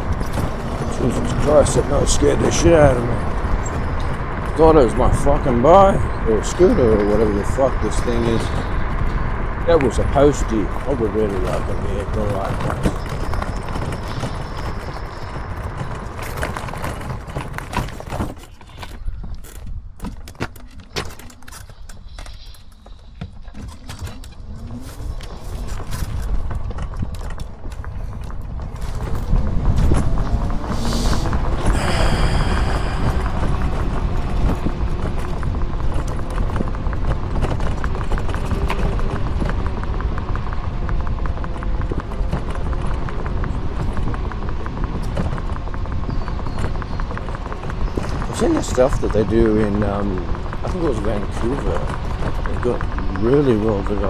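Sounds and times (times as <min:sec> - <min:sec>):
rolling noise: 0:00.0 - 0:18.8, 0:24.2 - 0:54.0
ride-on vehicle frame rattling: 0:00.0 - 0:54.0
rushing wind: 0:00.0 - 0:54.0.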